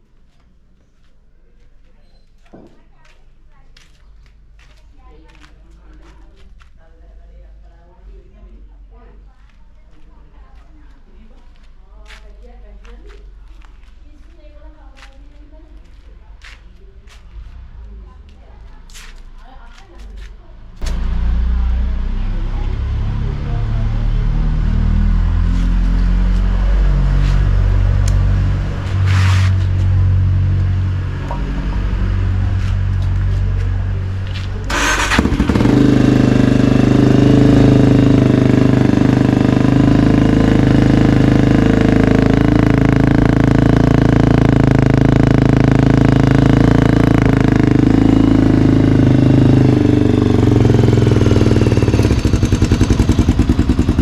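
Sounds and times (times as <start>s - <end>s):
motorcycle engine running: 9.9s - 54.0s.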